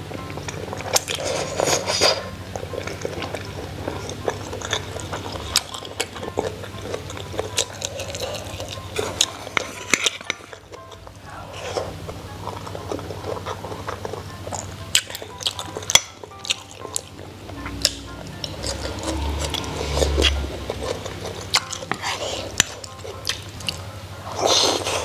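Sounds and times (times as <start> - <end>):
slurping and chewing: 0.0 - 25.0.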